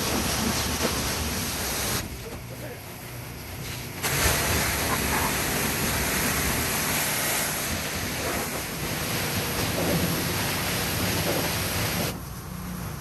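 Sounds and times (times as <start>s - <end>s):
pressure washer spraying: 0.0s - 2.7s, 3.4s - 12.2s.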